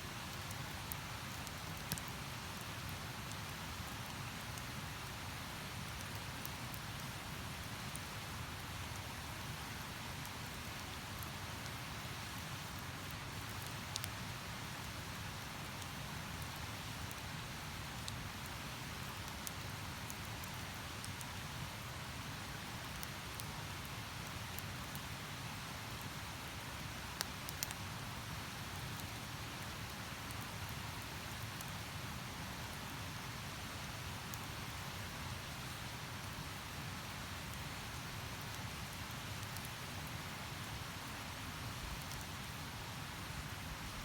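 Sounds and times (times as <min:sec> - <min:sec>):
campfire crackles: 0:00.1 - 0:44.0.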